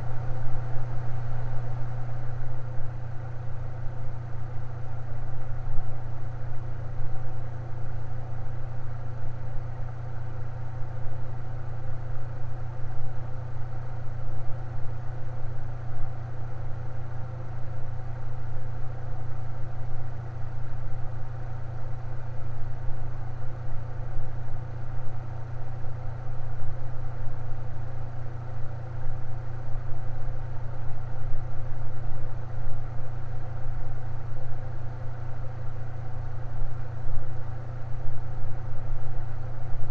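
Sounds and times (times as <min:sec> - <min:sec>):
fan humming and whirring: 0:00.0 - 0:39.9.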